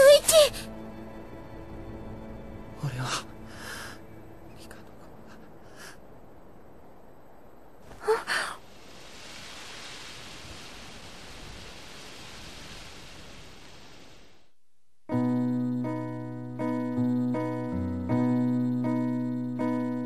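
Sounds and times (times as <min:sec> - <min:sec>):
soft steady hiss: 0:00.0 - 0:20.0.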